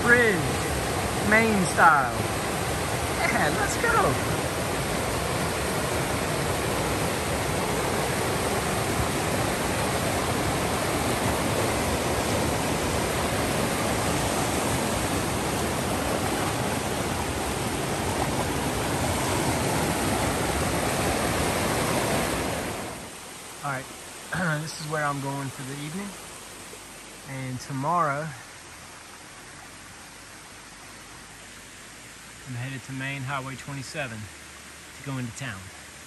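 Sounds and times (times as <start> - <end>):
stream rushing: 0.0 - 36.0.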